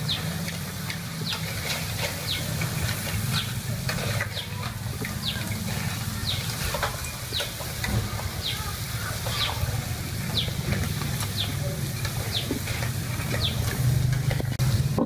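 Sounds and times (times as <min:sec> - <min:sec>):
food sizzling in wok: 0:00.0 - 0:15.0
metal spatula scraping wok: 0:00.0 - 0:15.0.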